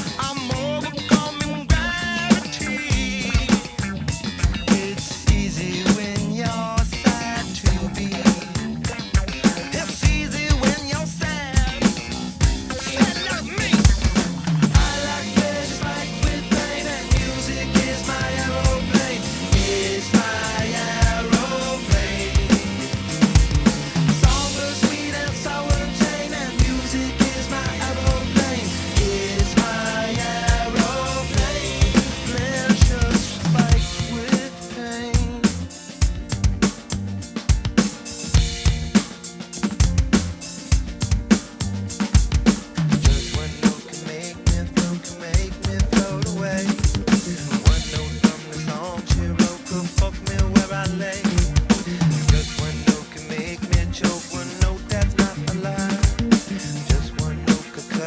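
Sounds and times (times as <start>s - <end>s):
recorded song with singing: 0.0s - 36.2s, 42.7s - 58.0s
backing music with bass: 0.0s - 58.0s
drum kit playing: 0.0s - 58.0s.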